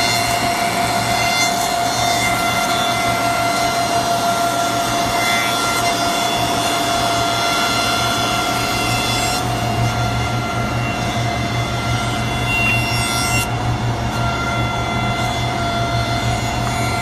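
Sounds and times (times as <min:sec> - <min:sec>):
whine of machine motors: 0:00.0 - 0:17.0
wood planer running: 0:00.0 - 0:17.0.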